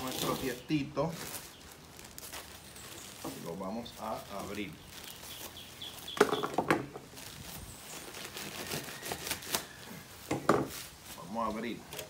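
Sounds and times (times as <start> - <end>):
plastic bag crinkling and tearing: 0.0 - 6.4, 7.0 - 12.0
sharp crackles: 0.0 - 12.0.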